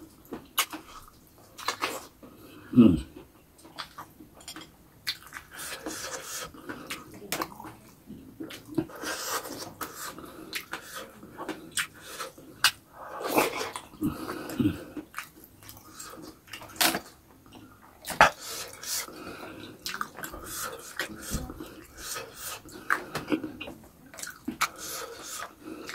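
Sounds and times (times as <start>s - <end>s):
man chewing and smacking lips: 0.0s - 25.9s.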